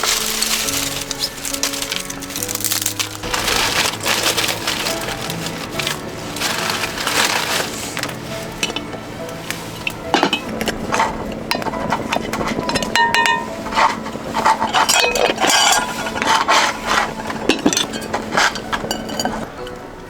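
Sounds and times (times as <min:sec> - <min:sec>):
hard objects clinking: 0:00.0 - 0:19.9.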